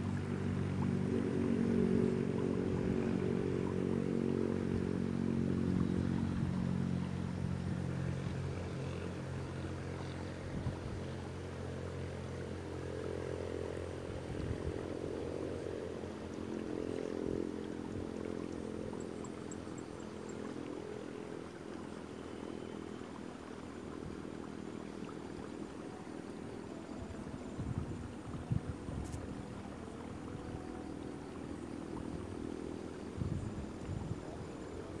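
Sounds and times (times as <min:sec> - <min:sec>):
small engine droning: 0:00.0 - 0:35.0.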